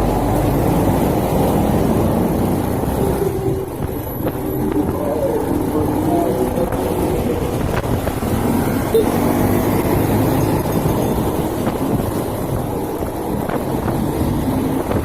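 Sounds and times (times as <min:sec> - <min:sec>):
motorcycle engine rumble: 0:00.0 - 0:15.0
road and wind noise: 0:00.0 - 0:15.0.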